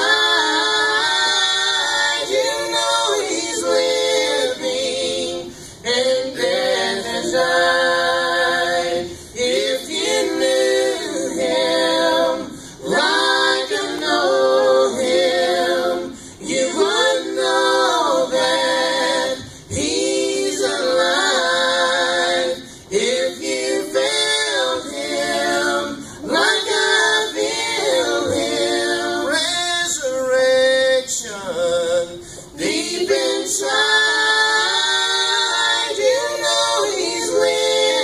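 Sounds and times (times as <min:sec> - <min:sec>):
group singing gospel in harmony: 0:00.0 - 0:38.0.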